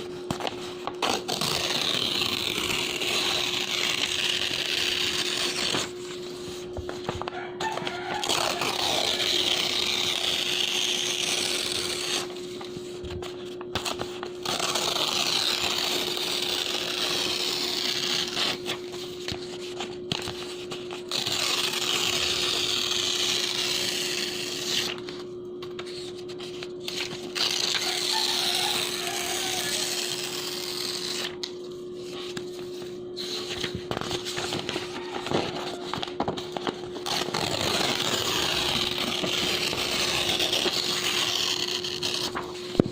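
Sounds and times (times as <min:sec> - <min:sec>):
paper tearing slowly: 0:00.0 - 0:06.8, 0:07.6 - 0:42.9
steady hum: 0:00.0 - 0:42.9.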